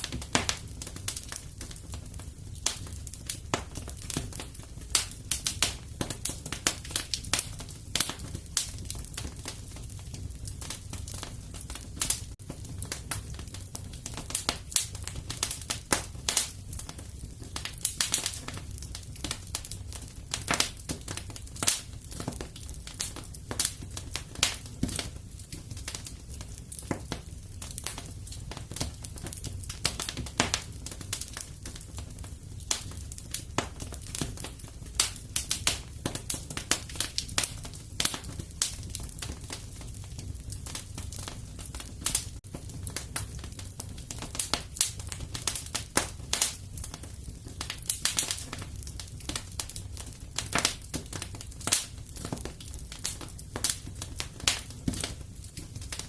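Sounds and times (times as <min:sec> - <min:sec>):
fireplace crackling: 0:00.0 - 0:56.0.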